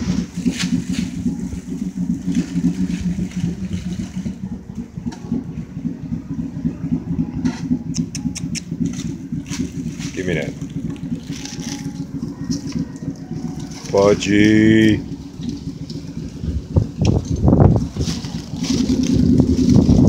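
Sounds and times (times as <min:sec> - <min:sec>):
low mechanical rumble with hum: 0:00.0 - 0:20.0.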